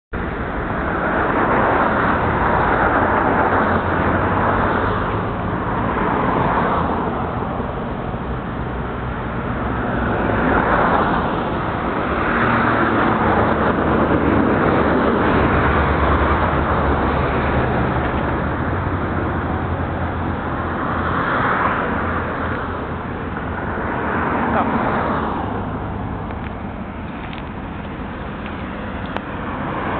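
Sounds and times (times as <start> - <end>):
low traffic rumble: 0.1 - 29.9
cars passing: 0.2 - 29.9.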